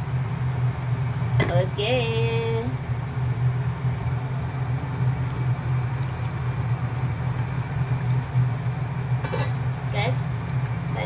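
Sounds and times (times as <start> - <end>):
food simmering in wok: 0.0 - 1.4, 2.8 - 11.0
appliance fan humming: 0.0 - 11.0.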